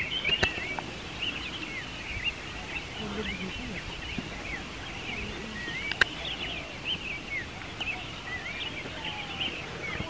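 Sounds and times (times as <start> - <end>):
birds chirping and whistling: 0.0 - 10.0
low outdoor hiss: 0.0 - 10.0.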